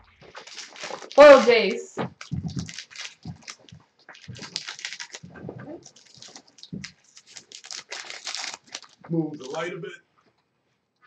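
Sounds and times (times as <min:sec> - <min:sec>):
trading cards rustling: 0:00.2 - 0:09.7.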